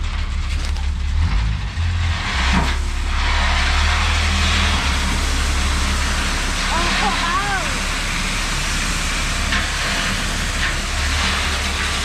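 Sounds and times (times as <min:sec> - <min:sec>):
dump truck engine rumbling: 0:00.0 - 0:12.0
gravel pouring out: 0:02.2 - 0:12.0.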